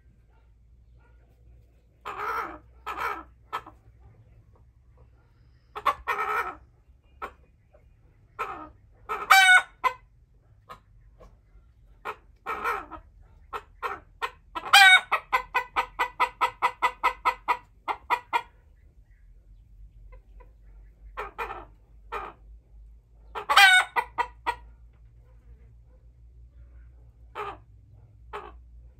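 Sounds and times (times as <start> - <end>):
hens clucking: 0.0 - 28.9.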